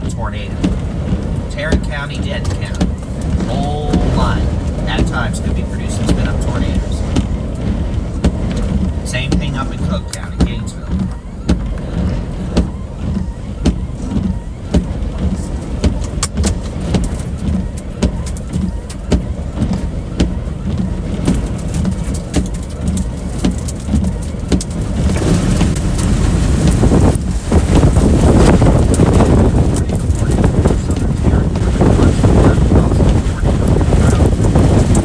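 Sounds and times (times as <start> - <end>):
road and engine rumble: 0.0 - 35.0
rushing wind noise: 0.0 - 35.0.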